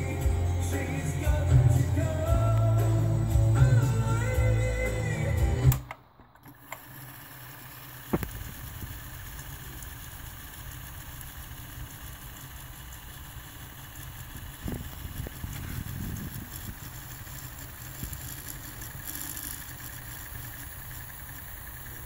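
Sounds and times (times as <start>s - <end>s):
cassette deck tape transport hum: 0.0s - 22.0s.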